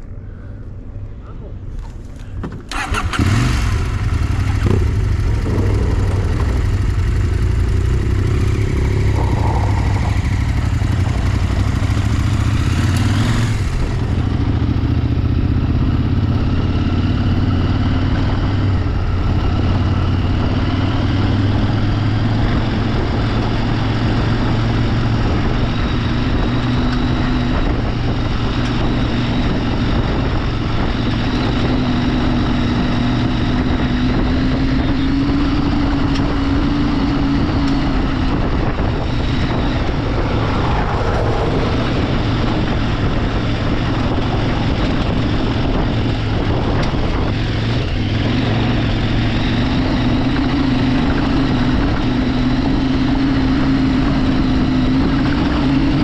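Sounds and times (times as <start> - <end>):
riding wind noise: 0.0 - 56.0
motorcycle engine running: 2.7 - 56.0.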